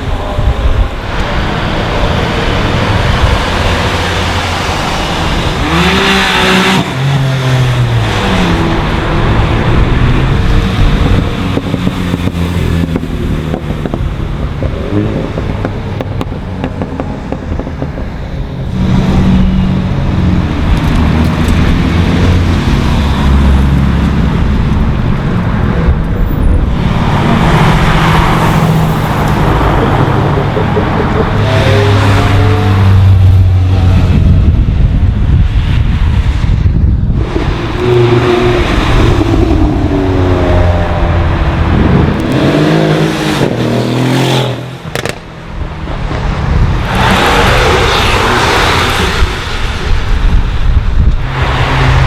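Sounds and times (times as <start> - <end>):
cars revving and driving past: 0.0 - 52.0.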